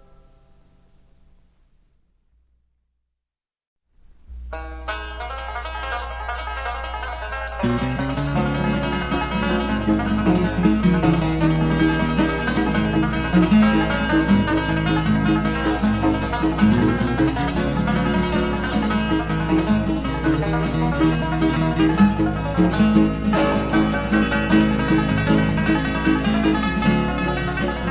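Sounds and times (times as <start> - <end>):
guitar: 0.0 - 1.5, 4.1 - 27.9
bass notes: 4.0 - 27.9
banjo lead: 4.1 - 27.9.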